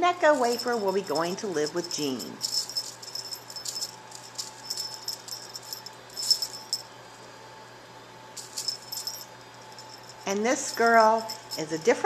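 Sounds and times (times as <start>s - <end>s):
small metal bell jingling: 0.2s - 6.9s, 8.4s - 12.0s.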